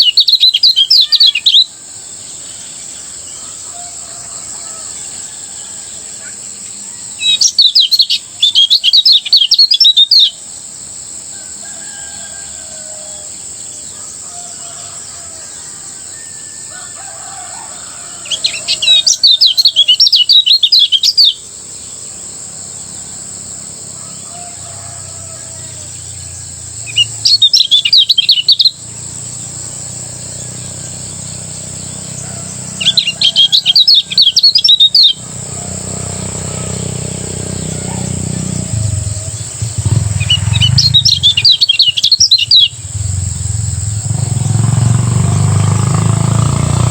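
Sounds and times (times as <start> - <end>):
bird singing chattering song: 0.0 - 11.0, 17.7 - 23.8, 24.4 - 46.9.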